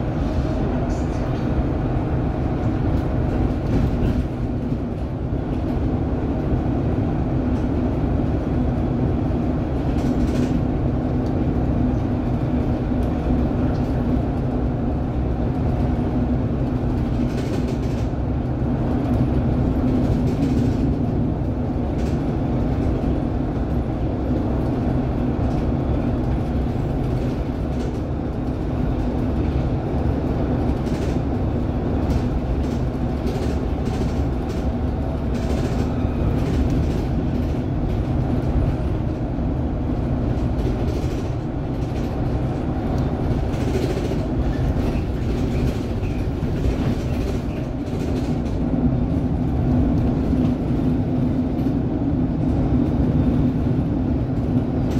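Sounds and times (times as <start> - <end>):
bus engine and tyre rumble: 0.0 - 54.9.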